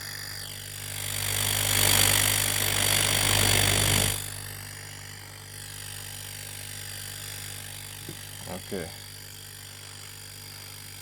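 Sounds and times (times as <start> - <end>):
compressor electric hum: 0.0 - 11.0.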